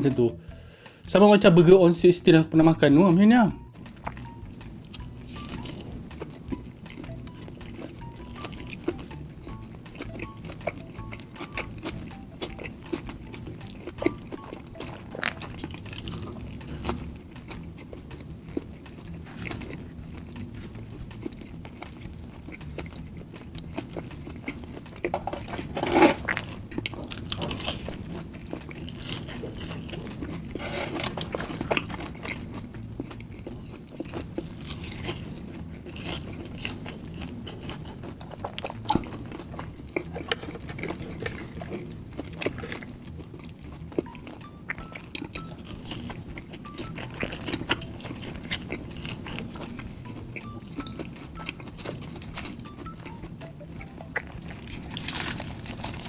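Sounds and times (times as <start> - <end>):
close-miked eating and chewing: 3.6 - 56.0.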